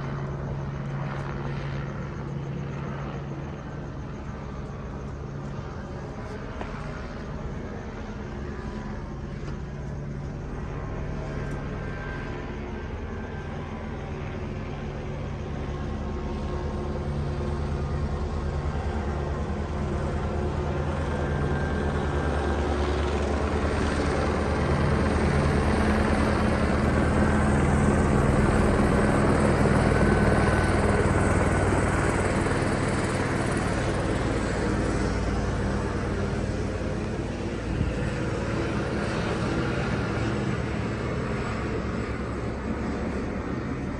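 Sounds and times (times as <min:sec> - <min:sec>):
helicopter rotor chop and drone: 0:00.0 - 0:43.9.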